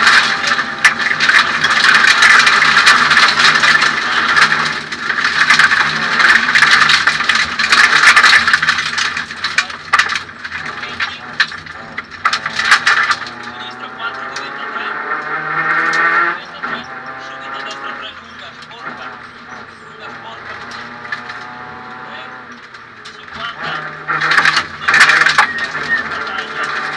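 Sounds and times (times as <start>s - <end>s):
cockpit rattles and knocks: 0.0s - 14.5s, 15.2s - 21.8s, 22.5s - 26.9s
car engine working hard: 0.0s - 26.9s.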